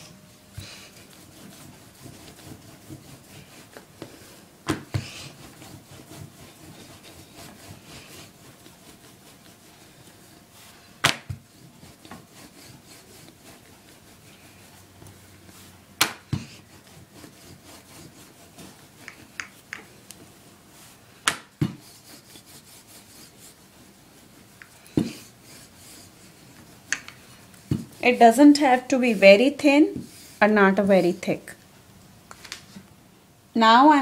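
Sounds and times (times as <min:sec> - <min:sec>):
rolling pin rubbing dough: 0:00.0 - 0:31.6.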